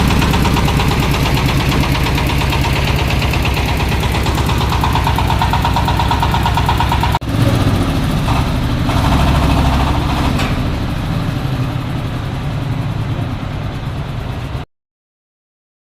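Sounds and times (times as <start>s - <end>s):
diesel engine chugging: 0.0s - 14.7s.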